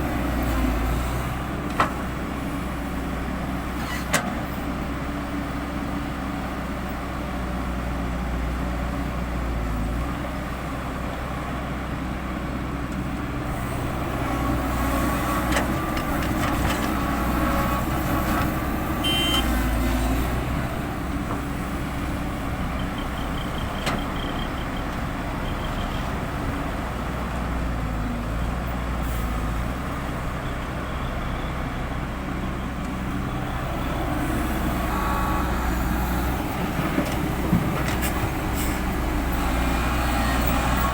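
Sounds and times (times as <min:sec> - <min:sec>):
diesel construction machinery running: 0:00.0 - 0:40.9.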